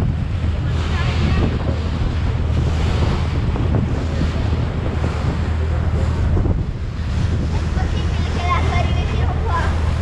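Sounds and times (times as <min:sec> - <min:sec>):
water rushing in boat wake: 0:00.0 - 0:10.0
wind buffeting microphone: 0:00.0 - 0:10.0.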